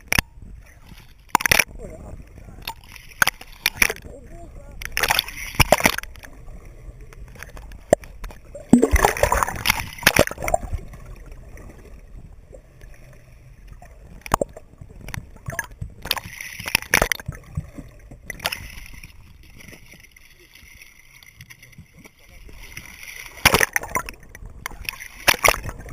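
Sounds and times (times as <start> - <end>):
water gurgling: 0.0 - 25.9
water splashing and sloshing: 0.0 - 25.9.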